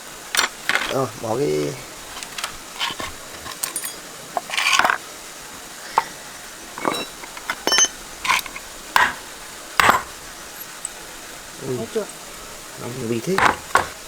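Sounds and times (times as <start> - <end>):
metal tools clinking and scraping: 0.3 - 14.0.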